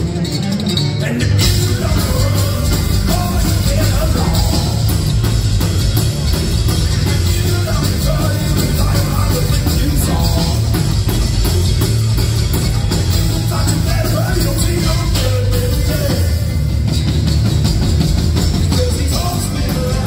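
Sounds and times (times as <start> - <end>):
acoustic-electric guitar: 0.0 - 20.0
electric bass: 0.0 - 20.0
live band playing metal bluegrass: 0.0 - 20.0.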